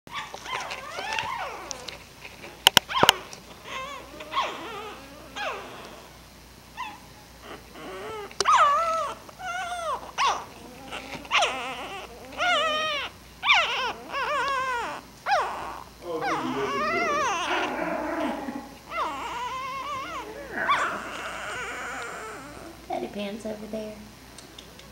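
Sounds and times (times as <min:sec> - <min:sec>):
puppies whimpering and squealing: 0:00.1 - 0:02.0, 0:02.9 - 0:06.2, 0:06.8 - 0:22.9.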